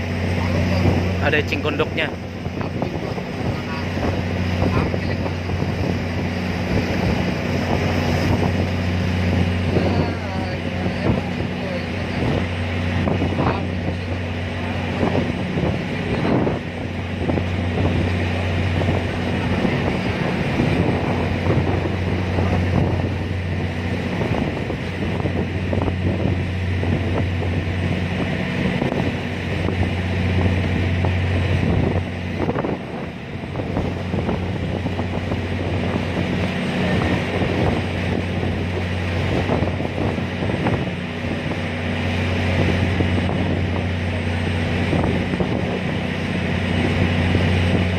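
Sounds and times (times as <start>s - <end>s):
ferry engine droning: 0.0s - 47.9s
wind buffeting microphone: 0.0s - 47.9s.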